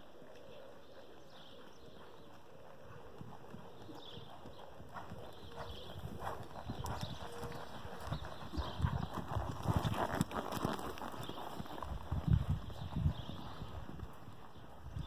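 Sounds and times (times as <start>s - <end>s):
horse hoofbeats on sand: 1.2s - 15.0s.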